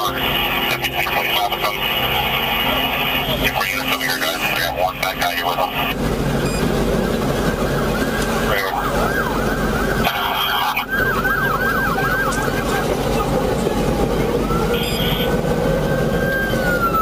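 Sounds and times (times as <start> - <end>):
police siren: 0.0 - 17.0
steady background noise: 0.0 - 17.0.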